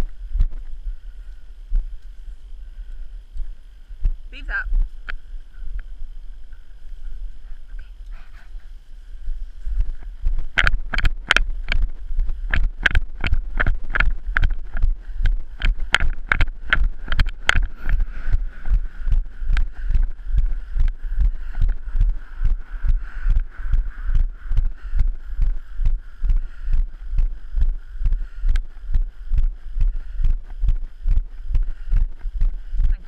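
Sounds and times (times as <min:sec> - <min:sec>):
walking footsteps: 0:00.0 - 0:33.0
wind buffeting microphone: 0:00.0 - 0:33.0.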